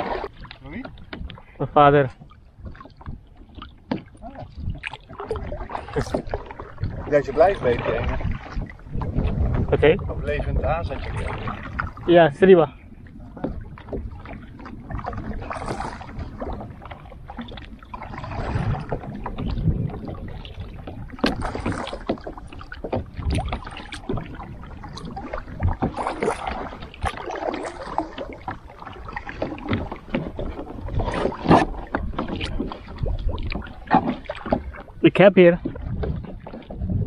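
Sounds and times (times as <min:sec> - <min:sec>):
water splashing around kayak: 0:00.0 - 0:37.0
wind on microphone: 0:00.0 - 0:37.0.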